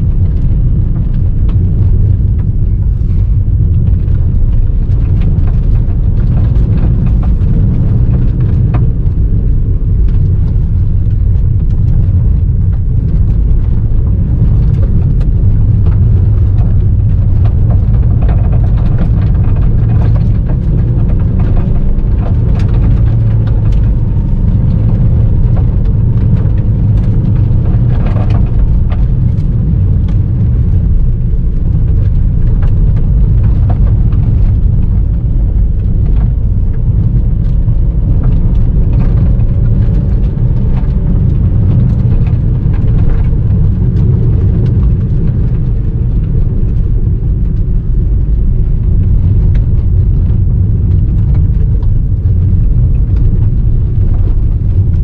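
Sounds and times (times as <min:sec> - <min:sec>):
gravel ticking on underbody: 0:00.0 - 0:55.0
tyres and engine rumbling: 0:00.0 - 0:55.0.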